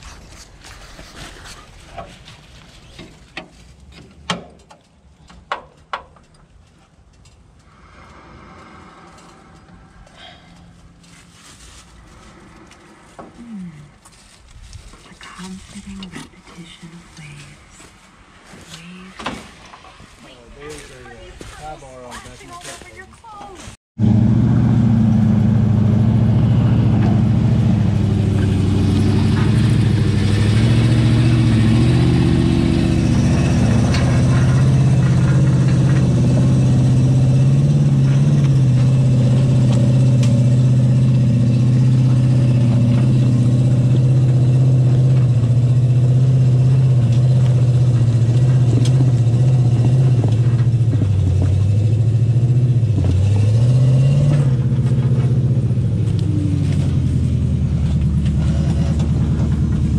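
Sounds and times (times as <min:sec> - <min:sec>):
truck engine at low revs: 0:00.0 - 0:22.2, 0:24.0 - 0:59.9.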